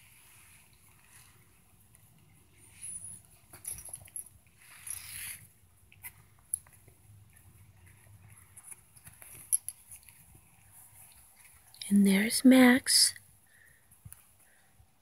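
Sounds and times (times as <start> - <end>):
puppies shuffling: 0.0 - 12.8.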